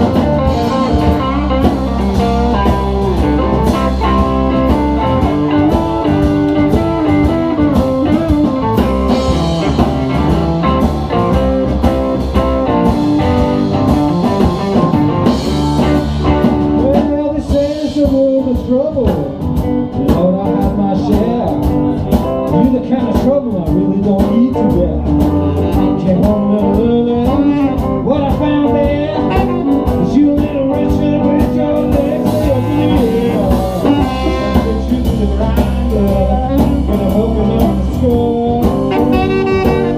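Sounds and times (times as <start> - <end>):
electric guitar bent notes: 0.0 - 18.0, 24.5 - 39.9
blues band playing: 0.0 - 39.9.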